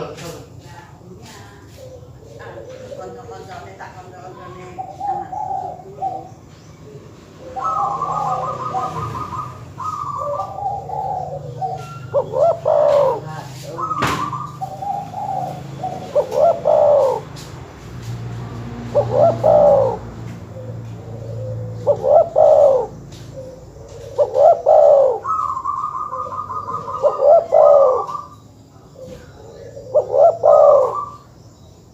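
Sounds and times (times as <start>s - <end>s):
doves cooing: 0.0s - 31.9s.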